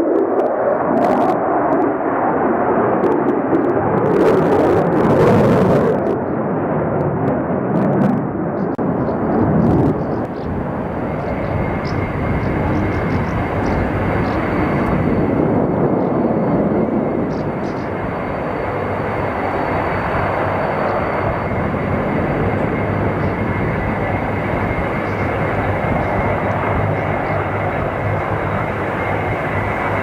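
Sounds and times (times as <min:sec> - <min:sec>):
fighter jet engines roaring: 0:00.0 - 0:30.0.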